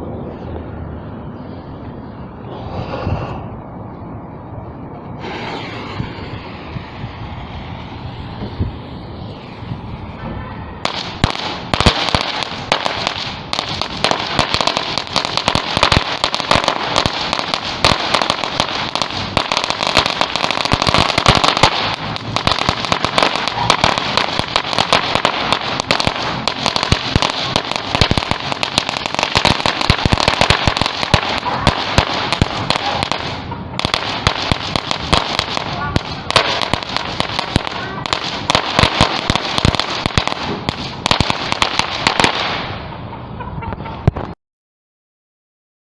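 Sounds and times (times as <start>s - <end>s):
firecrackers banging: 4.9s - 44.4s.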